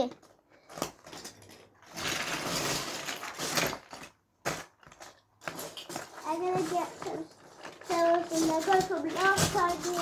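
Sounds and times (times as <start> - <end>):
handling rustle: 0.2 - 10.0.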